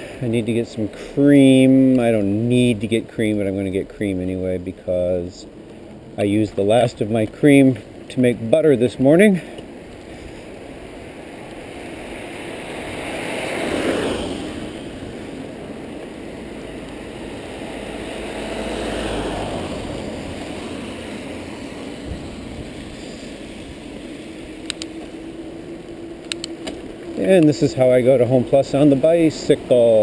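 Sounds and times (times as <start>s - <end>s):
traffic on wet road: 0.0s - 30.0s
vehicle passing with deep rumble: 0.0s - 30.0s.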